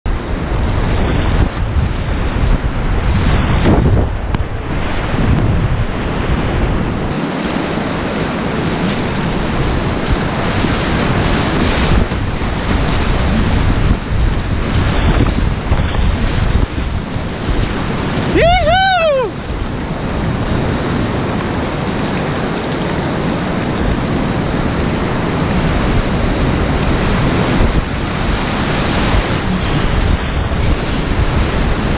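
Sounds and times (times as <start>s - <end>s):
wind buffeting microphone: 0.0s - 31.9s
waves splashing over kayak: 0.1s - 31.9s
whitewater rapids rushing: 0.1s - 31.9s.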